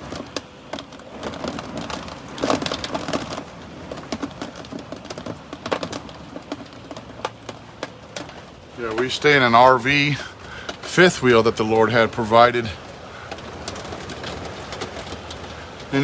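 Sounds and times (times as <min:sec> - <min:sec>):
clicks and knocks from trailer body: 0:00.0 - 0:16.0
trailer creaking and rattling: 0:00.0 - 0:16.0.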